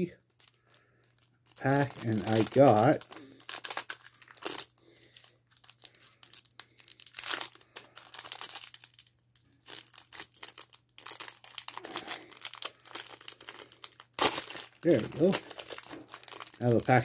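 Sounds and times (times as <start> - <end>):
foil wrapper crinkling and tearing: 0.3 - 17.0.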